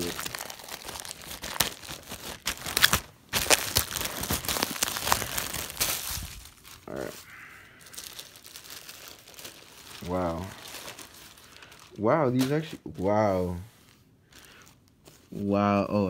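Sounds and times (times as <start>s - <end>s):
plastic bag crinkling: 0.0s - 15.4s.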